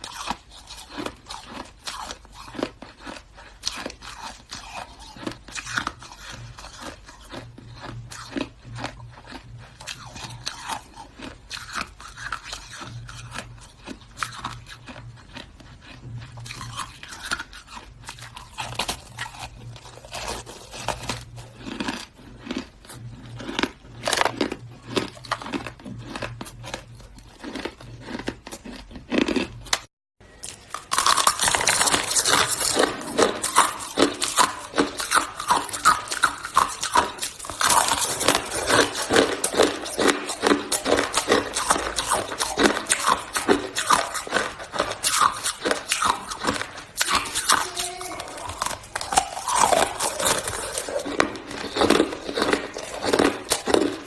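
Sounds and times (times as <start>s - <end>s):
shaved ice being chewed: 0.0s - 54.0s.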